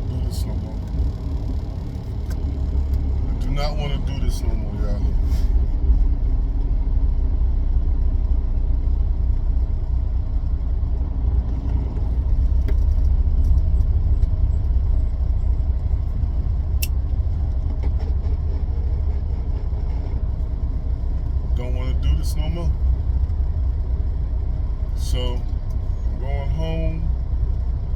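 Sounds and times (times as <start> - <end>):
truck engine low rumble: 0.0 - 27.9.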